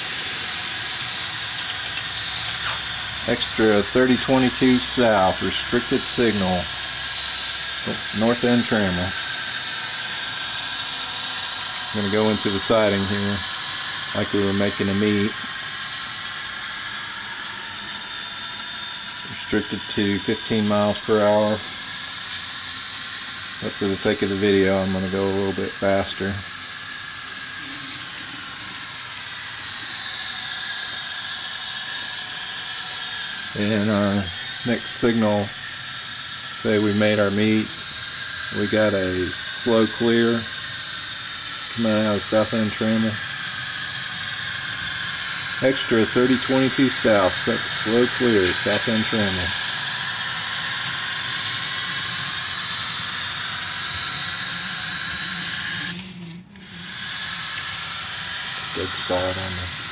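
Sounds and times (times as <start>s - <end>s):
model train running on track: 0.0s - 59.9s
thin high whine: 0.0s - 59.9s.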